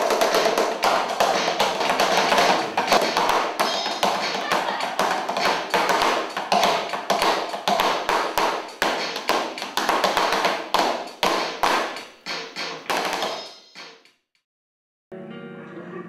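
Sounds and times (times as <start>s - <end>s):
hands slapping body rhythmically: 0.0s - 13.4s.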